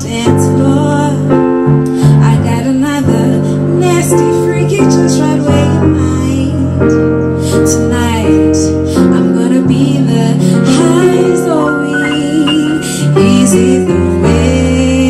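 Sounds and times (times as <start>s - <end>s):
electric keyboard chords: 0.0s - 15.0s
woman singing: 0.0s - 15.0s.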